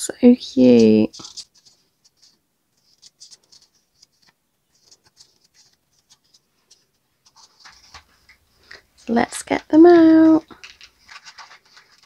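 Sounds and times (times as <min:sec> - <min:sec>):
paper pages rustling: 0:00.4 - 0:12.0.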